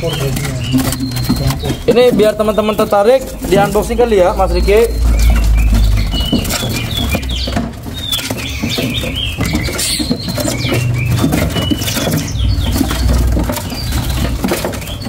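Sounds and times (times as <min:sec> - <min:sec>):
scattered clicks: 0:00.0 - 0:15.0
songbirds chirping: 0:00.0 - 0:15.0.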